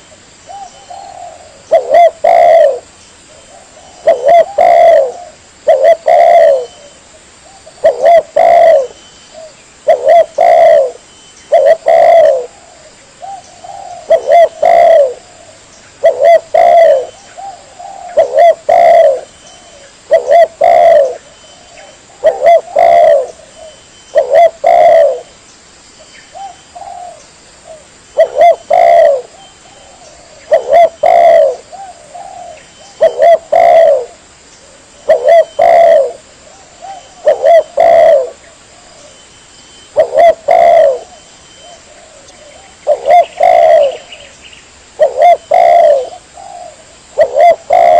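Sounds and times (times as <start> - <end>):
dove cooing: 0.0 - 25.4, 26.3 - 47.9.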